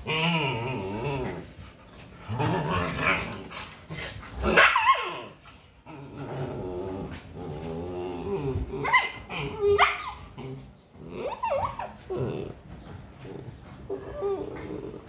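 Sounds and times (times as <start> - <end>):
dogs growling and grumbling: 0.0 - 15.0.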